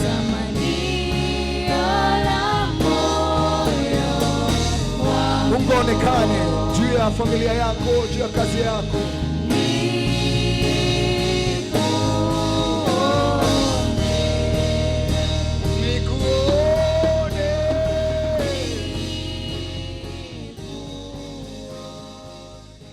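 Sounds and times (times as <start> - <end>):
praise band playing worship song: 0.0 - 22.9.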